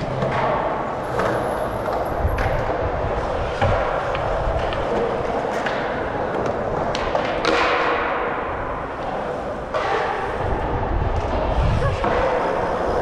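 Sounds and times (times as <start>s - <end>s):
bike tyres rolling on concrete: 0.0s - 13.0s.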